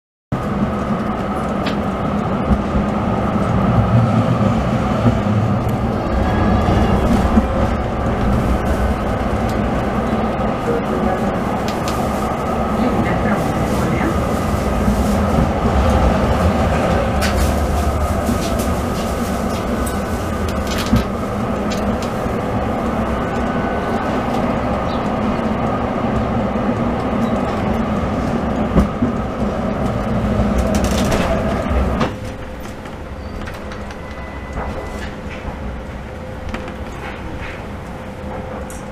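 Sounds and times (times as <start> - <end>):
tram wheels rumbling on rail: 0.3 - 38.9.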